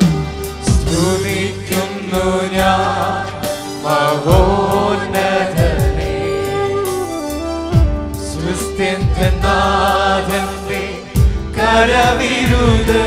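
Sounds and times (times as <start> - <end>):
congregation singing a hymn: 0.0 - 7.4, 8.2 - 13.0
instrumental accompaniment with beat: 0.0 - 13.0.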